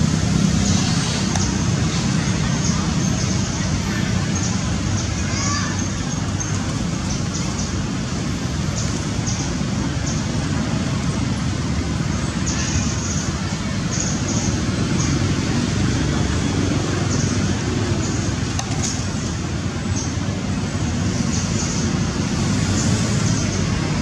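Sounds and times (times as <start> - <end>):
low rumbling background noise: 0.0 - 24.0.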